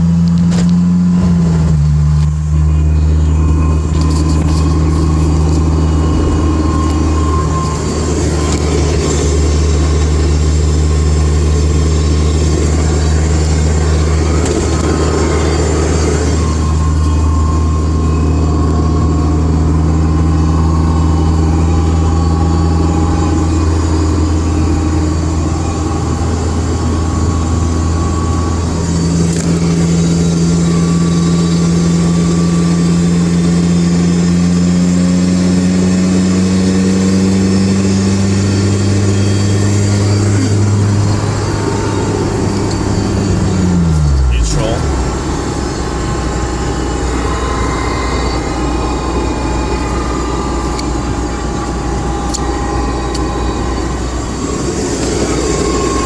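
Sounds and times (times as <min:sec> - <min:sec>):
car engine running: 0:00.0 - 0:56.0
rising drivetrain whine: 0:00.0 - 0:56.0.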